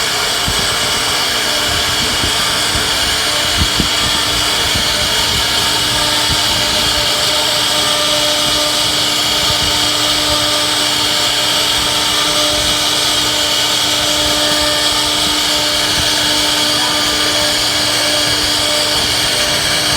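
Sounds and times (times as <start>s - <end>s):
router spindle cutting wood: 0.0s - 19.9s.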